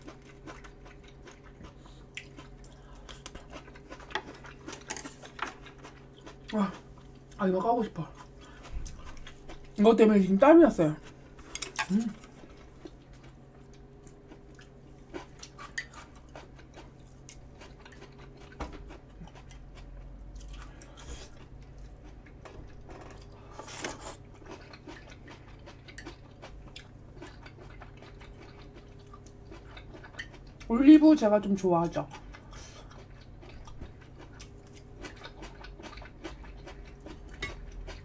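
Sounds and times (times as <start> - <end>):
person chewing and biting food: 0.0 - 7.4, 8.1 - 9.8, 11.0 - 30.7, 32.2 - 38.0
faint low hum: 0.0 - 38.0.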